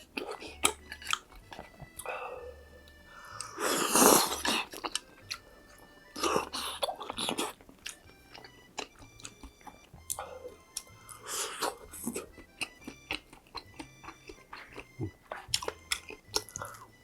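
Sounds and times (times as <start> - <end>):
chewing and wet mouth sounds: 0.0 - 17.0
soft background music: 0.0 - 17.0.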